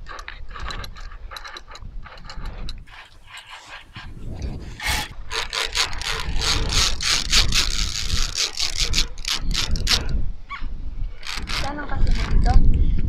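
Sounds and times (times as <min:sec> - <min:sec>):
metal clips scraping steel cable: 0:00.0 - 0:10.2, 0:11.2 - 0:12.6.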